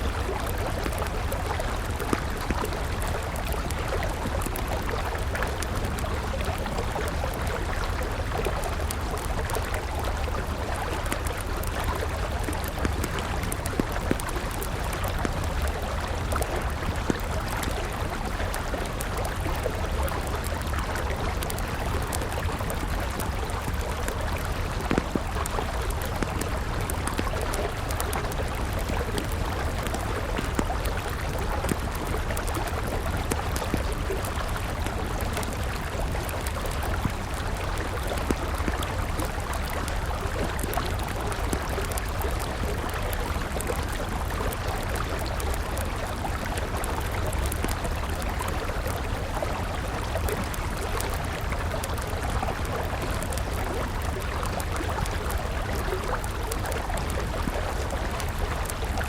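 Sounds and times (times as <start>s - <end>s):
river water running: 0.0s - 59.0s
wood fire crackling: 0.1s - 59.0s.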